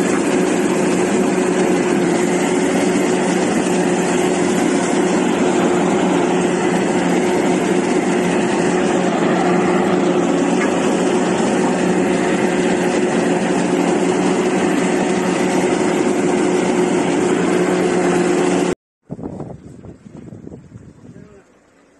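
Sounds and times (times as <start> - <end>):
excavator diesel engine droning: 0.0 - 18.8.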